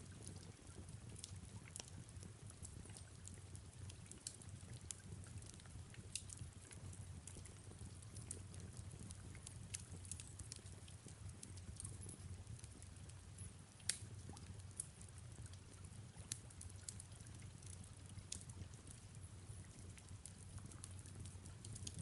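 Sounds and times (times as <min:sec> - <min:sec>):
gentle rain: 0:00.0 - 0:22.0
soft steady rumble: 0:00.0 - 0:22.0
wood fire crackling: 0:00.0 - 0:22.0.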